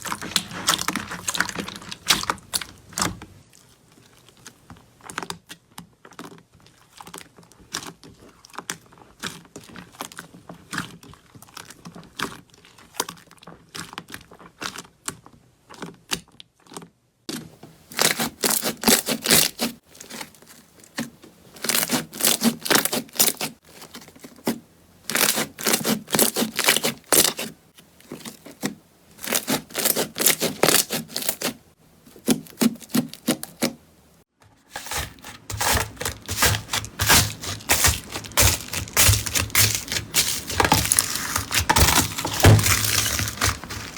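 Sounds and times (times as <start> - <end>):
slime clicking and crackling: 0.0 - 17.0, 17.9 - 33.8, 34.8 - 43.9.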